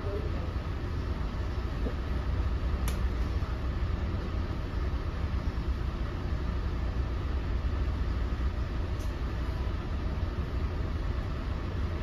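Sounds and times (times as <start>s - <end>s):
train interior low rumble: 0.0s - 12.0s.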